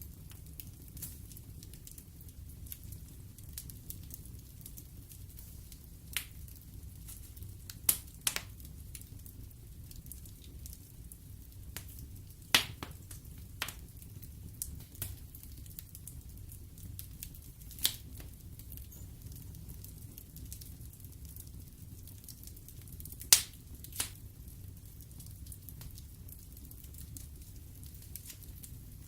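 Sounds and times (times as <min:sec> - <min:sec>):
fire flames rumbling: 0:00.0 - 0:29.0
logs crackling and popping: 0:00.0 - 0:29.0.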